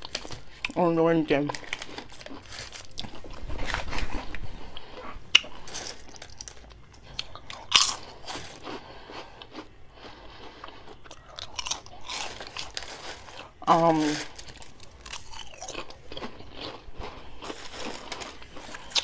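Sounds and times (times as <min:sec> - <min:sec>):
crunchy chips being chewed: 0:00.0 - 0:19.0.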